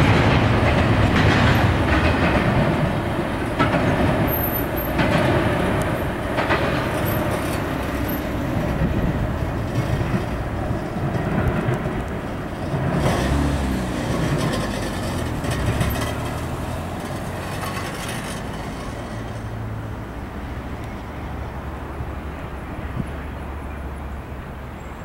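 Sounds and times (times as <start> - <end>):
freight train rumbling past: 0.0 - 25.0
road vehicle engine passing: 0.0 - 25.0.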